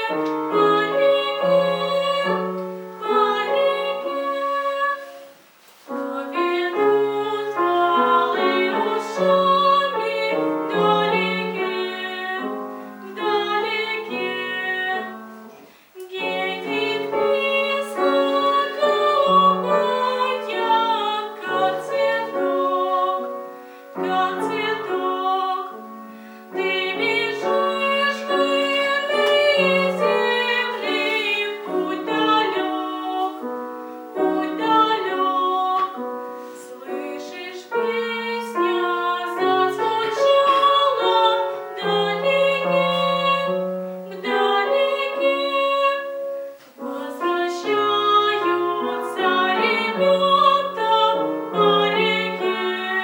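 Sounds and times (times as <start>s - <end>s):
woman singing folk song: 0.0s - 25.8s, 26.5s - 53.0s
piano accompaniment: 0.0s - 53.0s.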